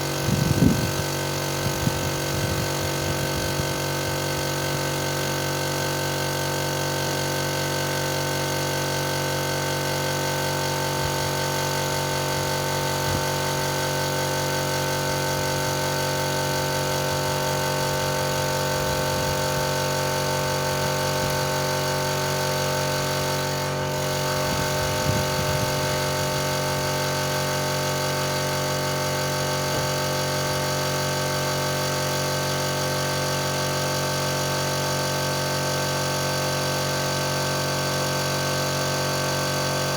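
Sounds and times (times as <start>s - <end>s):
motor humming steadily: 0.0s - 39.9s.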